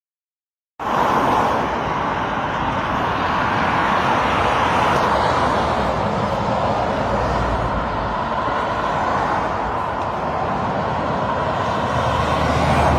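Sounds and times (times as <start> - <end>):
motor vehicle traffic noise: 0.8 - 12.9.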